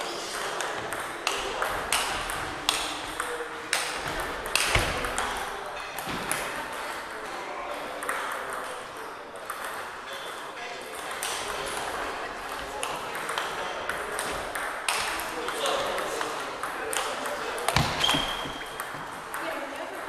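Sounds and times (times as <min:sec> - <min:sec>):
ball clicks from neighbouring tables: 0:00.3 - 0:06.6, 0:07.8 - 0:09.9, 0:11.0 - 0:20.0
table tennis balls clicking: 0:00.3 - 0:06.6, 0:07.8 - 0:10.3, 0:11.0 - 0:20.0.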